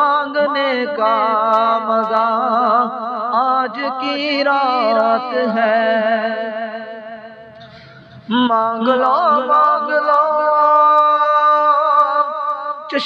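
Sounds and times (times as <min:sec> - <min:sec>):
man singing: 0:00.0 - 0:07.5, 0:08.3 - 0:13.0.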